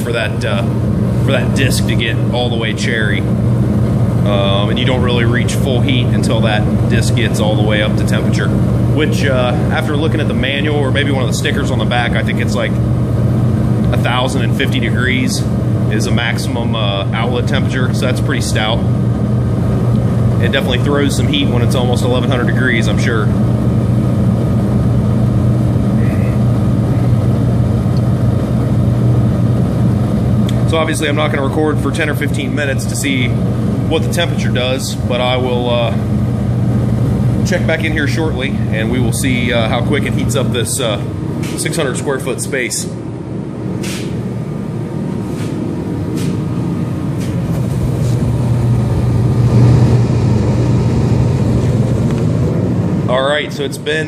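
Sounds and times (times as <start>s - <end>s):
heater fan and burner rushing: 0.0s - 54.0s
low hum: 0.0s - 54.0s.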